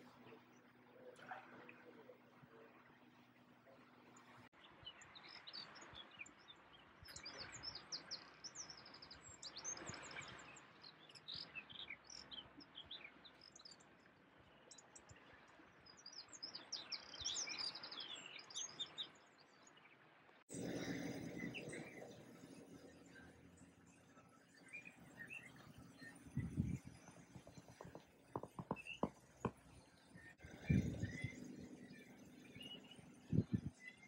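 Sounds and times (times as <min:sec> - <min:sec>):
faint small birds chirping: 0:00.0 - 0:34.0.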